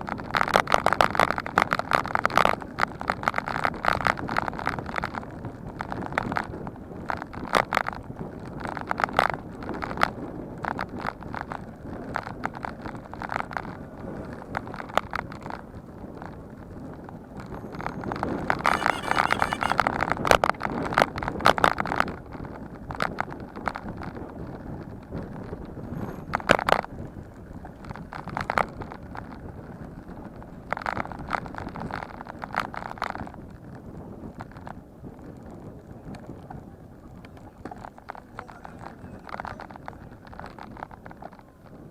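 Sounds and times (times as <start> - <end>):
bicycle riding over rough ground: 0.0 - 41.9
bike clattering and rattling: 0.0 - 41.9
wind and tyre noise: 0.0 - 41.9.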